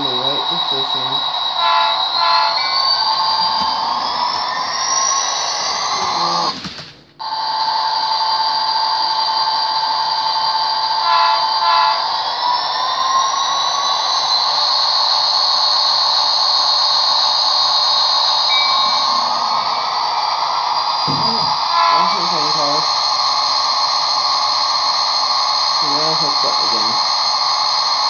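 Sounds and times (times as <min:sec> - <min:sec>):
electronic locomotive engine drone: 0:00.0 - 0:28.0.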